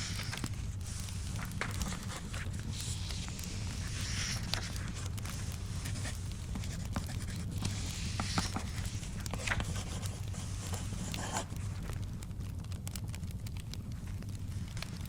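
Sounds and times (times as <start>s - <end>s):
book pages turning: 0.0s - 12.1s
wood fire crackling: 0.0s - 15.0s.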